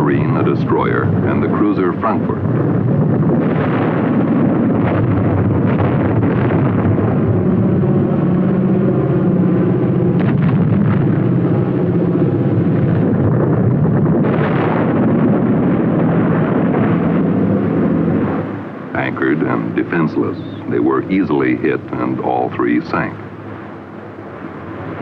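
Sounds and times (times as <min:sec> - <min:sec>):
bombs exploding in water: 0:00.0 - 0:07.7, 0:09.7 - 0:23.7
continuous rumble: 0:00.0 - 0:25.0
steady low drone: 0:00.0 - 0:25.0.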